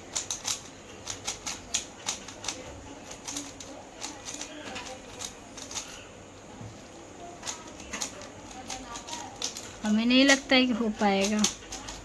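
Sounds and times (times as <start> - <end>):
plastic puzzle cube clicking: 0.1 - 5.9, 7.4 - 10.5, 11.1 - 12.0.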